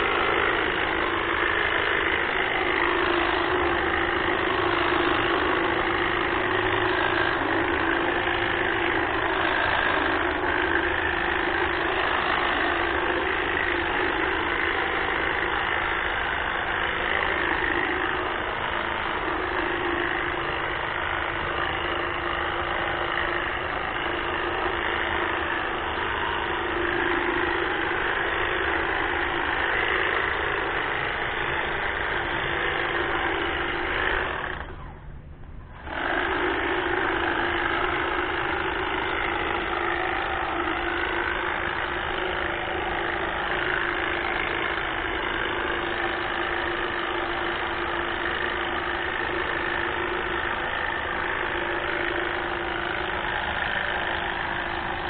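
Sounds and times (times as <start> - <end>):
hedge trimmer buzzing: 0.0 - 55.0.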